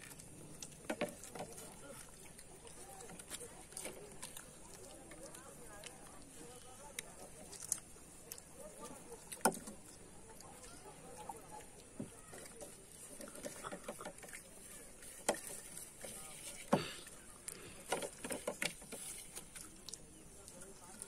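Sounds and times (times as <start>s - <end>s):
eating sounds: 0.0s - 21.0s.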